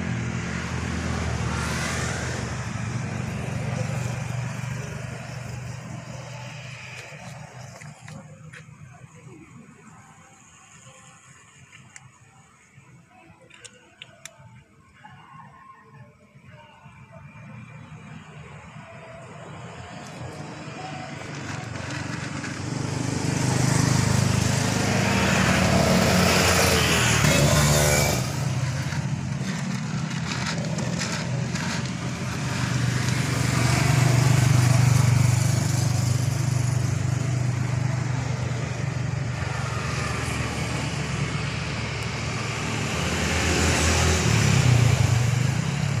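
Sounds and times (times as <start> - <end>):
vehicles passing: 0.0 - 46.0.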